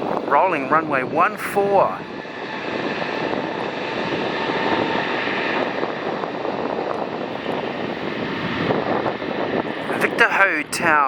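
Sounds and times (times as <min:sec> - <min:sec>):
jet engines rushing with whine: 0:00.0 - 0:11.0.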